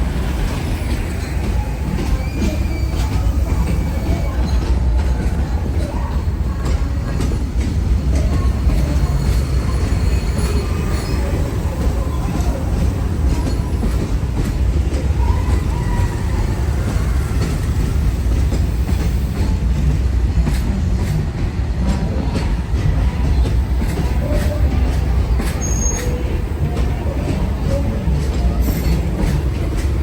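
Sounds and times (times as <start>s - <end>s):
train rumbling past: 0.0s - 30.0s
wheels clicking over rail joints: 0.3s - 30.0s.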